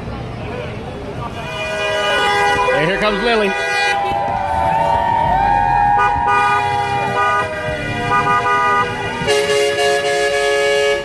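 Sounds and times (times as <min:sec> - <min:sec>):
horns honking: 0:00.6 - 0:11.0
long horn blast: 0:01.4 - 0:11.0.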